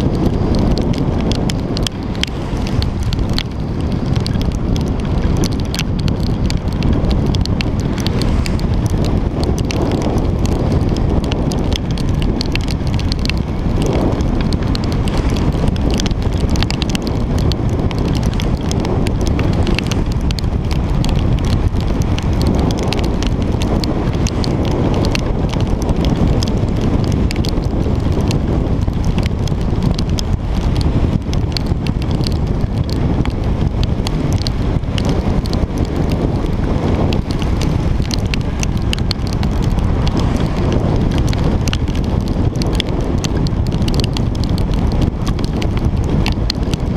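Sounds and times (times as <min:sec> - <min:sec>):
raindrops ticking on camera: 0:00.0 - 0:46.9
wind buffeting microphone: 0:00.0 - 0:46.9.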